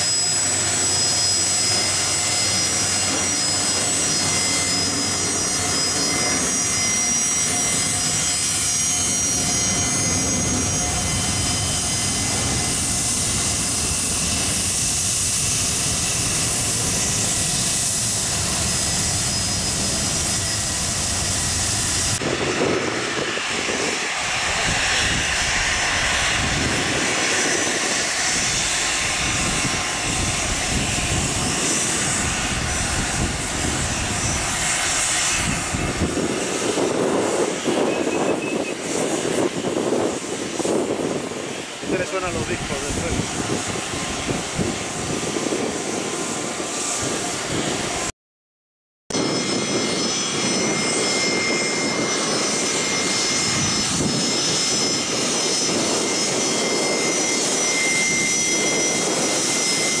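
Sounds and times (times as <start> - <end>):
jet engines whining: 0.0 - 48.1, 49.1 - 60.0.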